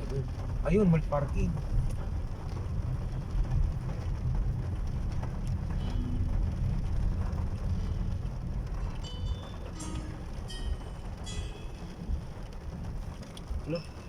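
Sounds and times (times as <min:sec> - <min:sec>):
rain hiss: 0:00.0 - 0:14.0
road noise rumble: 0:00.0 - 0:14.0.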